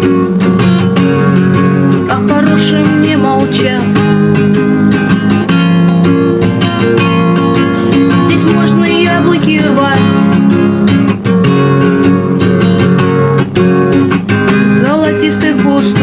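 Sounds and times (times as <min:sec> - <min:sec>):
woman singing: 0:00.0 - 0:11.9, 0:14.7 - 0:16.0
acoustic guitar strumming: 0:00.0 - 0:16.0.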